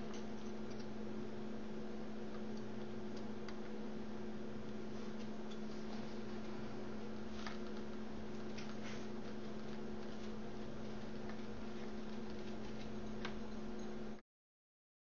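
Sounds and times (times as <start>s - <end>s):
electrical hum: 0.0s - 14.2s.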